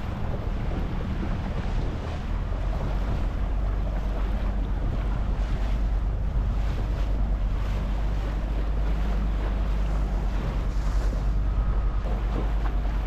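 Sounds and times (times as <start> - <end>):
boat motor humming: 0.0 - 13.0
water splashing against hull: 0.0 - 13.0
wind buffeting microphone: 0.0 - 13.0.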